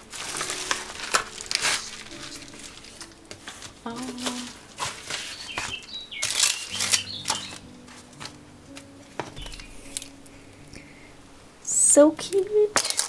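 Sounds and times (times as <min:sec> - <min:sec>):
paper and packaging rustling: 0:00.0 - 0:10.6, 0:12.4 - 0:13.0.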